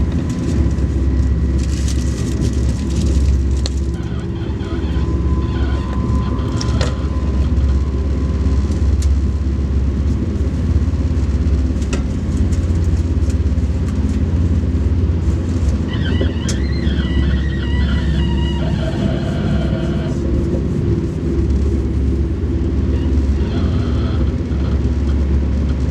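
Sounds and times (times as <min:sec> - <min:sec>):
wavering high whine: 0:00.0 - 0:11.3, 0:14.4 - 0:25.6
train running rumble: 0:00.0 - 0:25.9.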